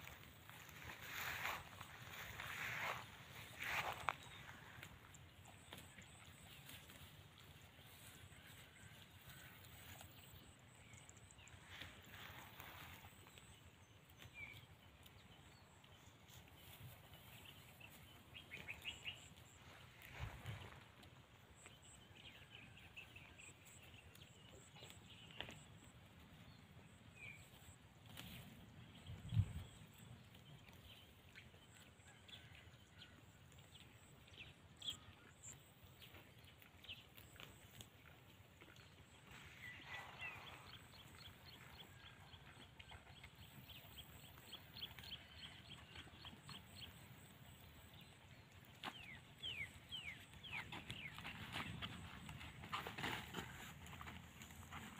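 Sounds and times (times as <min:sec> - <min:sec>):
goats biting and tearing grass: 0:00.0 - 0:11.0, 0:11.6 - 0:22.9, 0:23.6 - 0:54.9.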